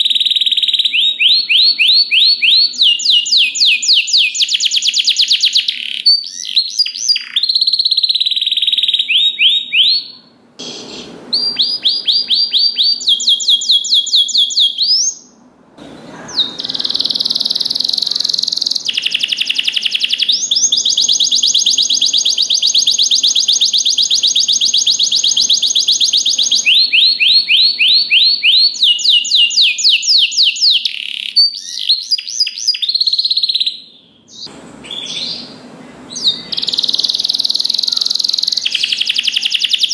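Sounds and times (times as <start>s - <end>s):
canary singing trills: 0.0s - 15.4s, 16.0s - 39.9s.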